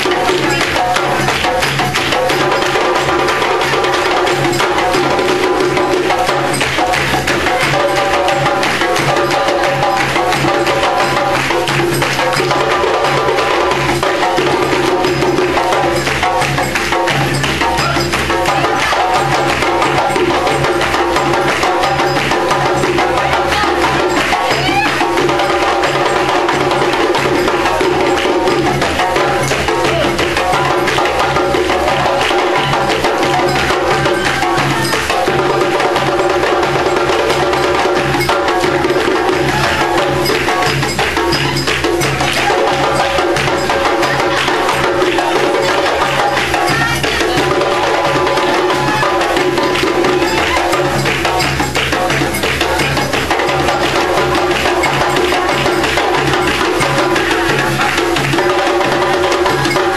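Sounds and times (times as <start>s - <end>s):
drums and hand percussion: 0.0s - 59.9s.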